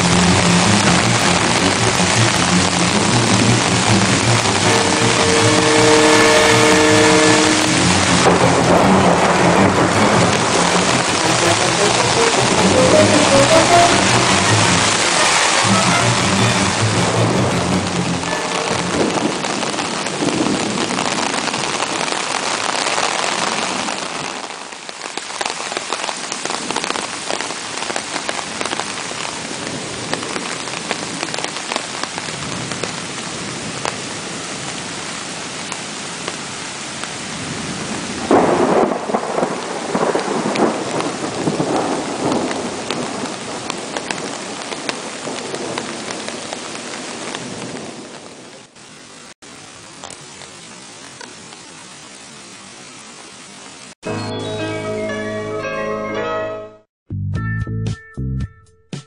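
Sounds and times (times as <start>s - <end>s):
runoff water streaming: 0.0s - 54.0s
heavy rain on water and grass: 0.0s - 54.1s.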